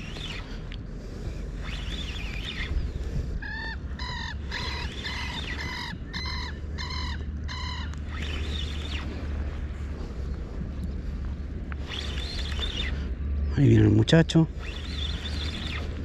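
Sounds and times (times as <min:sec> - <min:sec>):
bird calling: 0:00.0 - 0:00.6, 0:01.6 - 0:10.4, 0:11.8 - 0:16.0.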